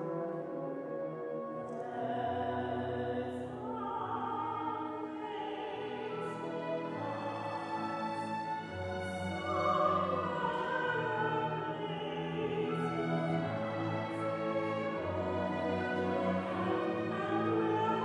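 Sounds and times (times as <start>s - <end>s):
symphony orchestra: 0.0s - 18.0s
choir singing: 1.6s - 18.0s
woman singing classical melody: 1.6s - 18.0s.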